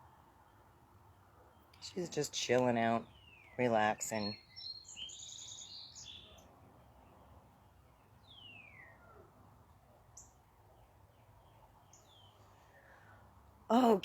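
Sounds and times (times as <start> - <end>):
faint wild birdsong: 0.0 - 13.8.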